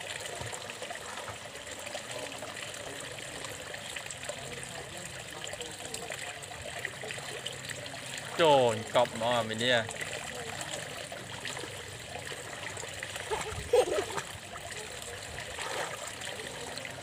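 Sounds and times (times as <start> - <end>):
pool water trickling and lapping: 0.0 - 17.0.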